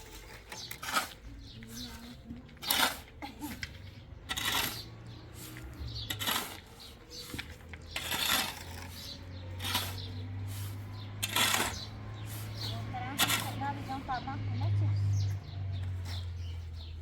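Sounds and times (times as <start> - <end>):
scraping strokes: 0.0 - 14.3.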